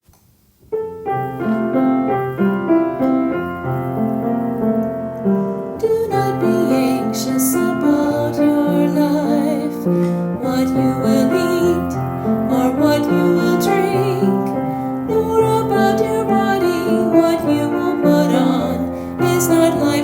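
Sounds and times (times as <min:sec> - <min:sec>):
gentle piano melody: 0:00.7 - 0:20.0.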